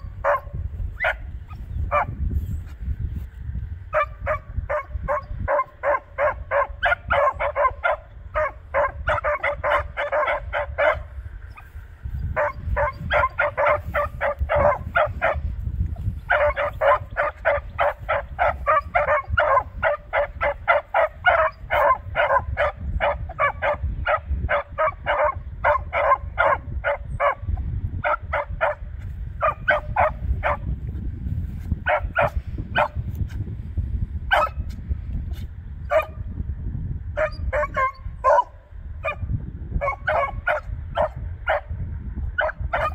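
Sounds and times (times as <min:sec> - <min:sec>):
hounds barking rapidly: 0:00.0 - 0:02.1, 0:03.9 - 0:15.5, 0:16.2 - 0:30.7, 0:31.8 - 0:33.0, 0:34.3 - 0:34.6, 0:35.9 - 0:36.2, 0:37.2 - 0:39.2, 0:39.8 - 0:41.7, 0:42.4 - 0:42.9.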